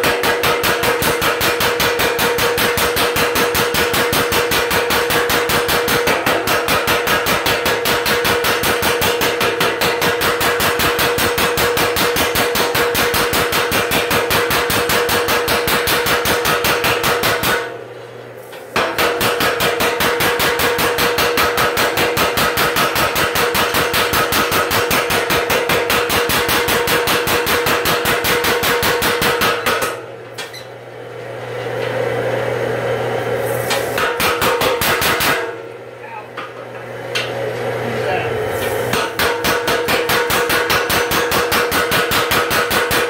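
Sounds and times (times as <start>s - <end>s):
power hammer pounding steel: 0.0s - 17.9s, 18.7s - 30.2s, 33.7s - 35.8s, 38.6s - 43.0s.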